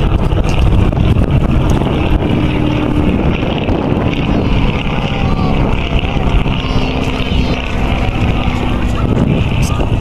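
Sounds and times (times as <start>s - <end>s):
biplane engine overhead: 0.0s - 10.0s
wind buffeting microphone: 0.0s - 10.0s.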